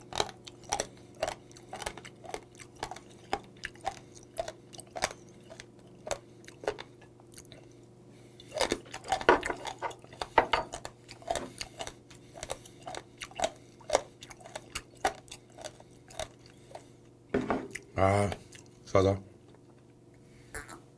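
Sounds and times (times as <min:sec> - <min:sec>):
wet chewing and smacking: 0:00.0 - 0:18.8.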